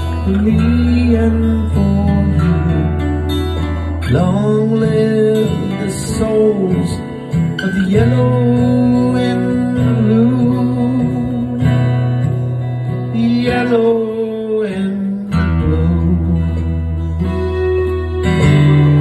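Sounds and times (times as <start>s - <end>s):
man singing long notes: 0.0s - 3.1s, 4.0s - 12.0s, 13.0s - 17.4s
acoustic guitar strumming chords: 0.0s - 19.0s.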